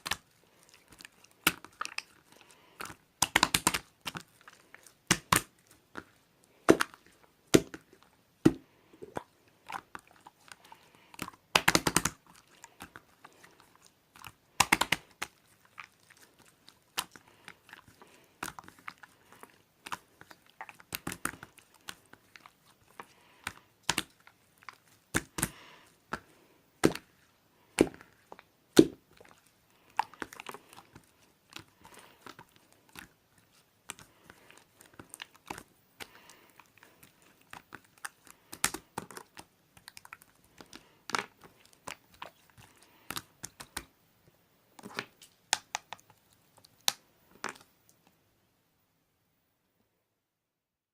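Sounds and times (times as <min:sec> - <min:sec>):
slime bubbles popping and crackling: 0:00.0 - 0:43.9.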